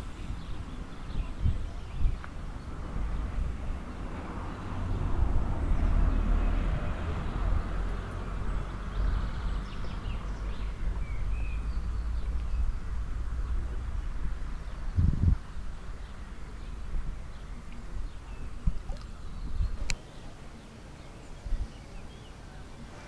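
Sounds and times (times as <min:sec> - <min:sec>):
steady rush of noise: 0:00.0 - 0:23.0.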